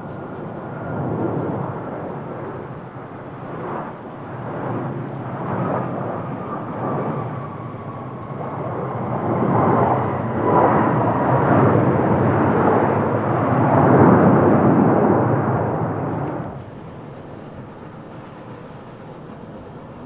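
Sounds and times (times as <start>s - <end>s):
jet engine rumble and whine: 0.0s - 20.0s.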